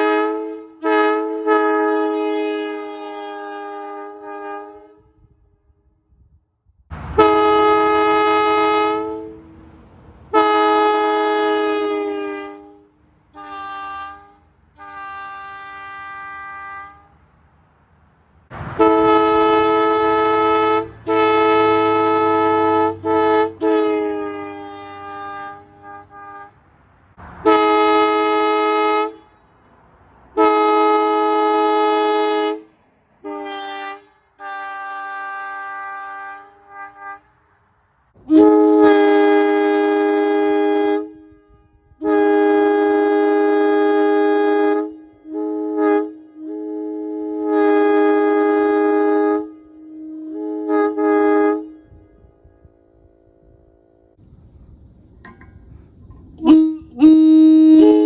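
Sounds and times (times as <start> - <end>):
locomotive air horn blasts: 0.0 - 58.0.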